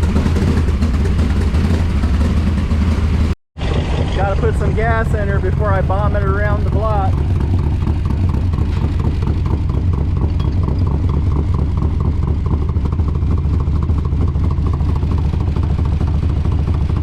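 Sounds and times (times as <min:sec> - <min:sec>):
low exhaust rumble: 0:00.0 - 0:17.0.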